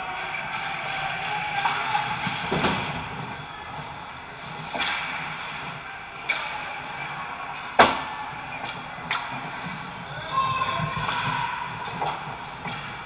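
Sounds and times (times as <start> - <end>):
rink background noise: 0.0 - 13.0.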